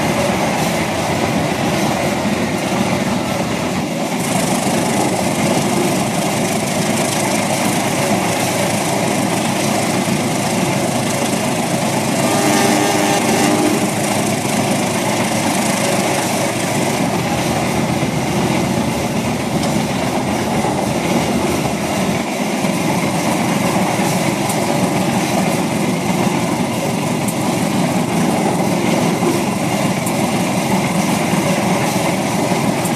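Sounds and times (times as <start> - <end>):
model train wheels clicking: 3.0 - 32.9.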